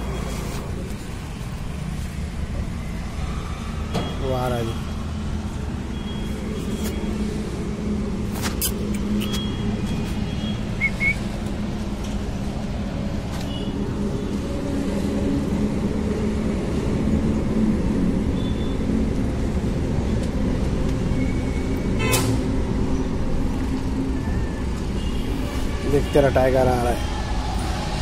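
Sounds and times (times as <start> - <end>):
low rumble of traffic: 0.0 - 28.0.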